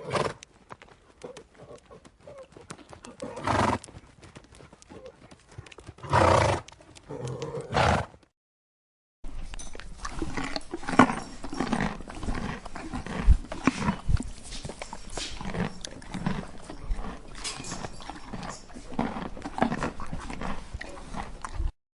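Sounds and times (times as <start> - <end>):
horse noises: 0.0 - 8.3, 9.6 - 21.7.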